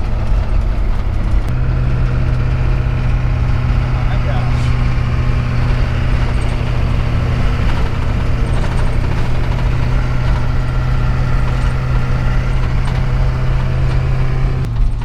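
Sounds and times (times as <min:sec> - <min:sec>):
diesel engine drone: 0:00.0 - 0:15.0
road rumble: 0:00.0 - 0:15.0.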